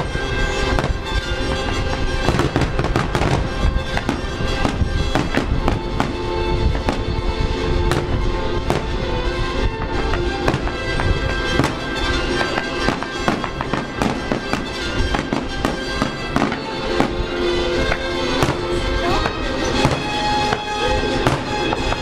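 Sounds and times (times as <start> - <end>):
fireworks bangs: 0.0 - 22.0
music with long held notes: 0.0 - 22.0.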